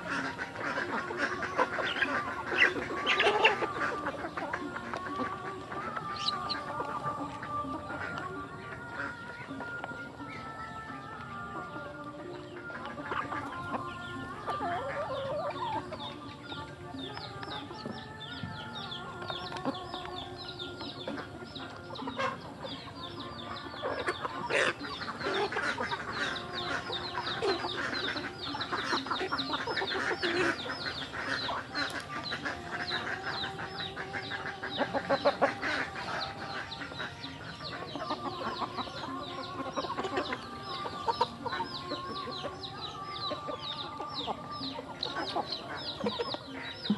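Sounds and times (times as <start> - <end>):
chicks clucking and peeping: 0.0 - 46.9.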